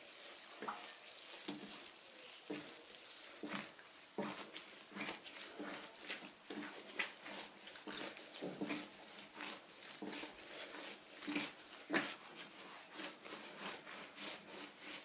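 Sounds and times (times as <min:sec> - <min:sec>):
bread dough kneaded by hand: 0:00.0 - 0:15.0.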